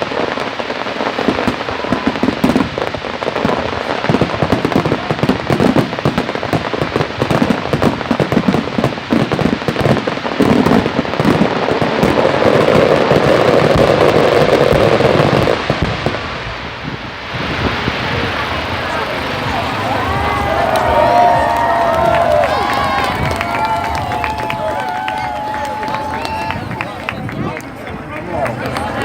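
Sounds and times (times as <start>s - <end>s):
fireworks crackling and popping: 0.0s - 29.0s.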